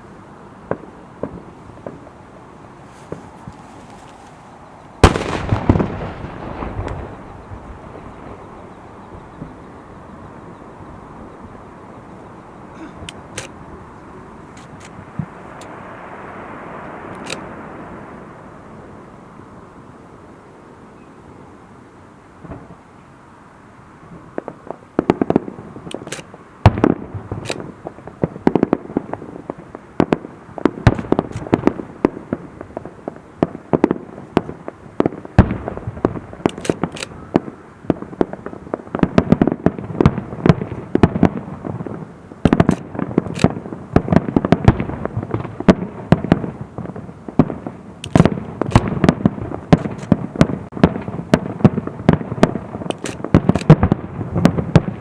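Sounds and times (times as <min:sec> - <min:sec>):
fireworks exploding: 0:00.0 - 0:19.2, 0:22.4 - 0:22.9, 0:24.0 - 0:55.0.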